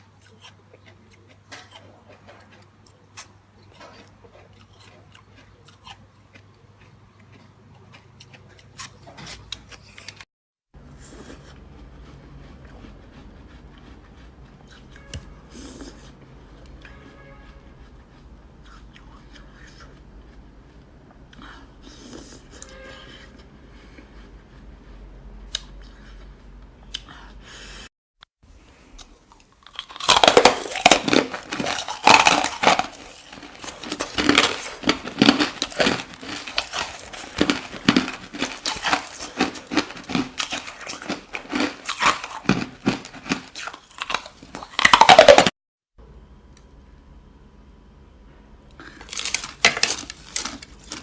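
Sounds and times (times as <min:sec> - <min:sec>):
ice crunching while chewed: 0:00.0 - 0:22.7, 0:28.9 - 0:45.5, 0:48.7 - 0:51.0.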